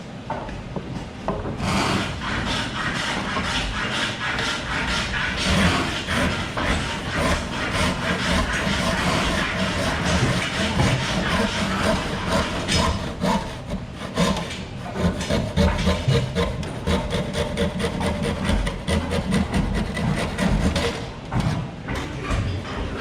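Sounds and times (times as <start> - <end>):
hand tool scraping wood: 1.6 - 21.7.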